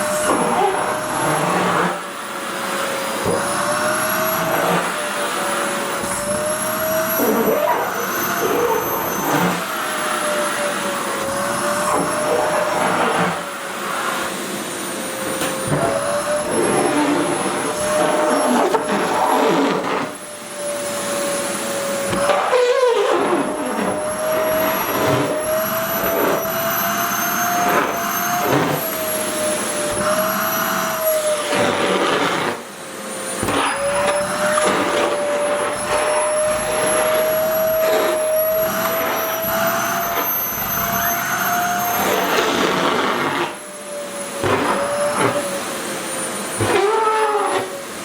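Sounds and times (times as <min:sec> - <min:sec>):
vacuum cleaner motor whine: 0:00.0 - 0:48.0.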